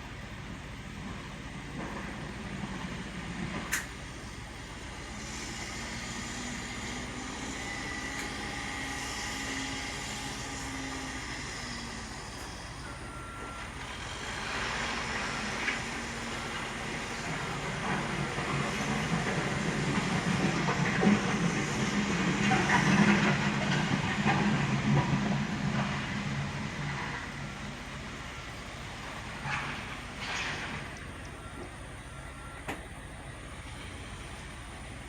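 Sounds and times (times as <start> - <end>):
backhoe diesel engine running: 0.0 - 35.0.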